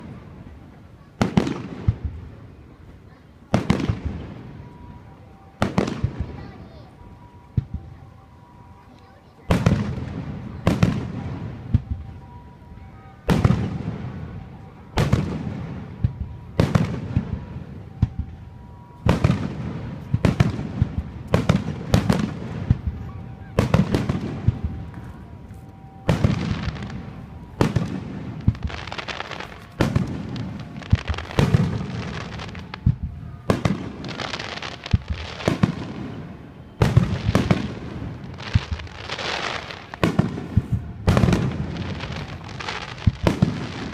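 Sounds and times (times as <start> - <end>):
fireworks shells booming: 3.5 - 4.8, 9.5 - 43.9.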